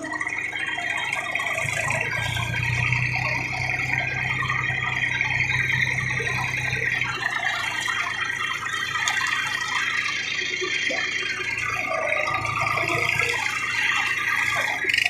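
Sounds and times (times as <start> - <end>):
constant rattling: 0.0 - 15.0
tractor engine running under load: 0.0 - 15.0.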